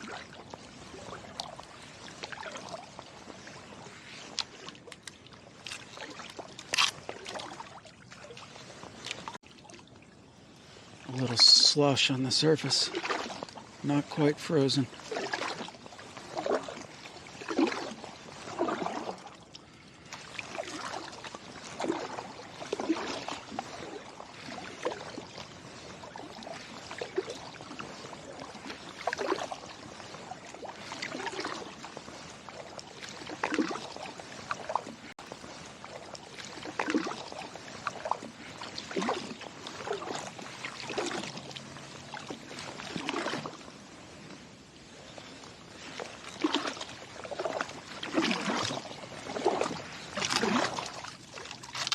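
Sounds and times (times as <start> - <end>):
paddle splashing in water: 0.0 - 51.9
water trickling off paddle: 0.0 - 51.9.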